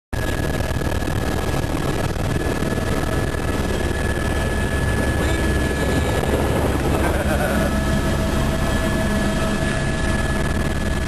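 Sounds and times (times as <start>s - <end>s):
helicopter rotor and engine: 0.2s - 11.0s
thin high whine: 2.0s - 11.0s.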